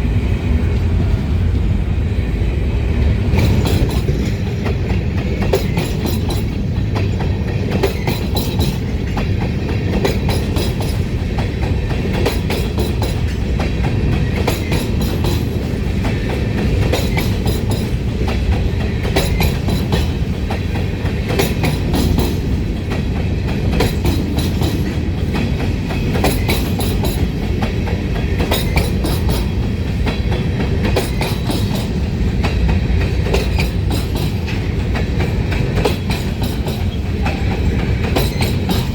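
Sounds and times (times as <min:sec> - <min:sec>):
freight train rumble: 0:00.0 - 0:38.9
wheels clacking over rail joints: 0:03.3 - 0:38.9.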